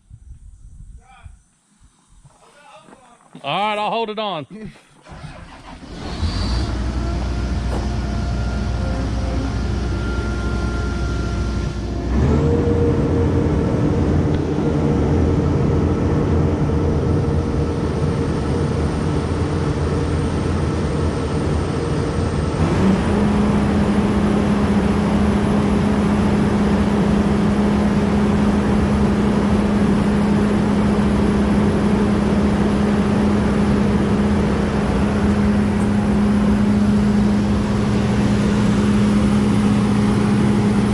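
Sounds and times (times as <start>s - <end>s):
combine harvester drone: 5.0s - 40.9s.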